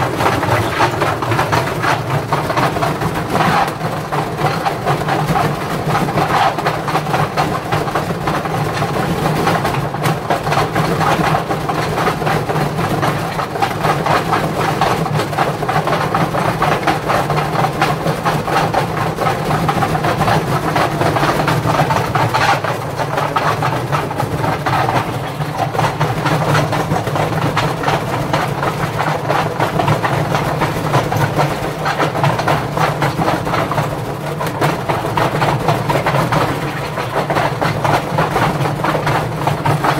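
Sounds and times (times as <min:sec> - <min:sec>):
bricks rattling in drum: 0:00.0 - 0:39.9
washing machine drone: 0:00.0 - 0:39.9.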